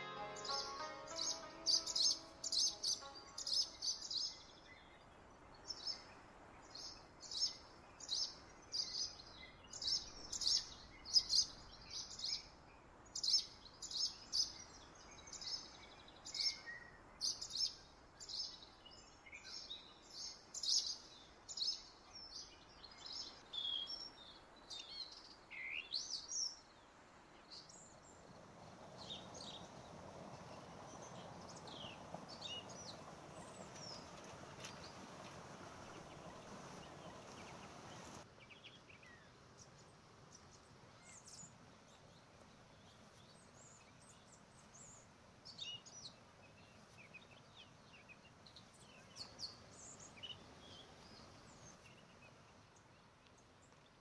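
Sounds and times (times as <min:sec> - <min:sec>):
faint outdoor background noise: 0:00.0 - 0:54.0
small birds chirping: 0:00.0 - 0:54.0.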